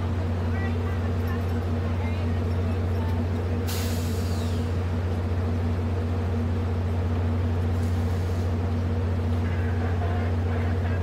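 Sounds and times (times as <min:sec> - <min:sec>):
idling train low hum: 0:00.0 - 0:11.0.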